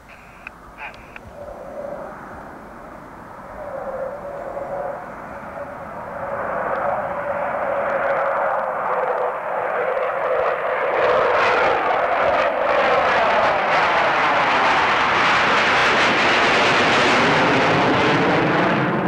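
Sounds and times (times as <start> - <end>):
jet fighters roaring overhead: 0.0 - 19.0.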